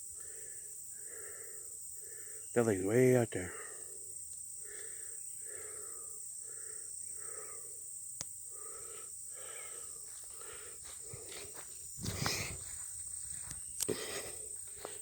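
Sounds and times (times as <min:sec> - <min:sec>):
heavy rhythmic breathing: 0:00.0 - 0:02.5, 0:03.5 - 0:15.0
high-pitched insect drone: 0:00.0 - 0:15.0.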